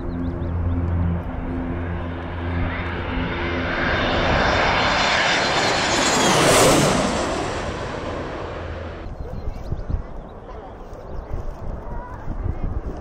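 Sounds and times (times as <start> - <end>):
jets flying low overhead: 0.0 - 13.0.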